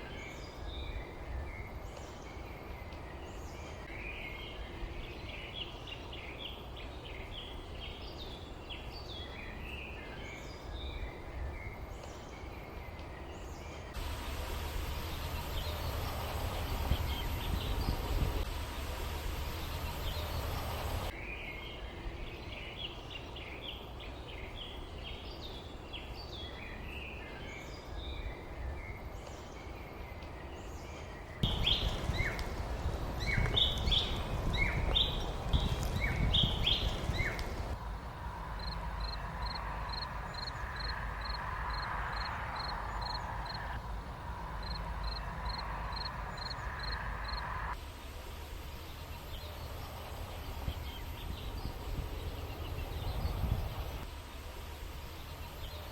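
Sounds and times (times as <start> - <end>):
small songbirds chirping: 0.0 - 37.8, 38.4 - 47.8, 48.4 - 55.9.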